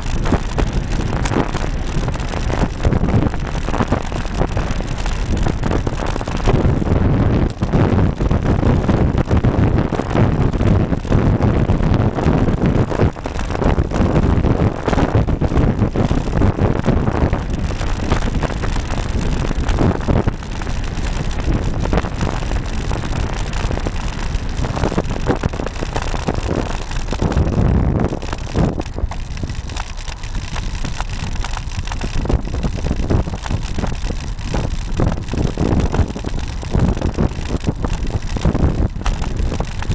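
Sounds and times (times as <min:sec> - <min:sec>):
rolling road noise: 0:00.0 - 0:39.9
wind buffeting microphone: 0:00.0 - 0:39.9.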